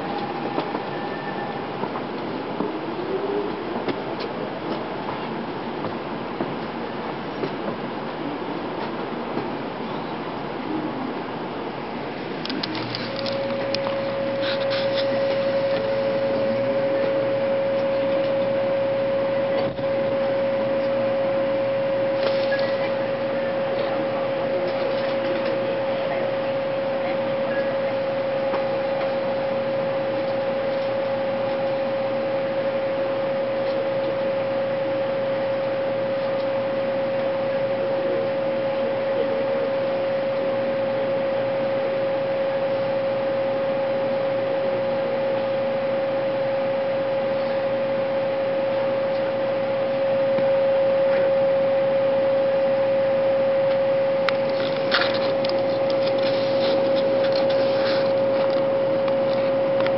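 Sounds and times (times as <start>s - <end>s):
train cabin hum and hiss: 0.0s - 59.9s.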